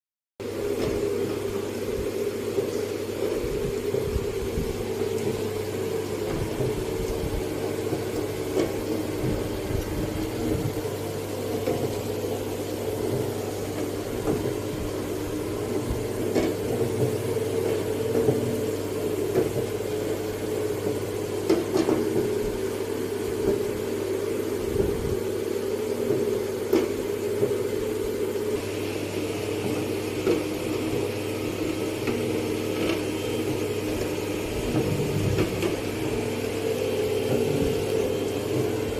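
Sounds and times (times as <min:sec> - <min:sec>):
machine motor hum: 0:00.4 - 0:38.9.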